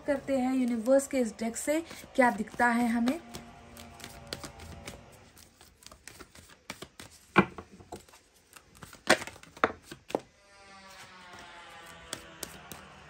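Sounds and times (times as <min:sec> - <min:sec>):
cards being shuffled: 0:00.6 - 0:10.3, 0:11.0 - 0:13.0.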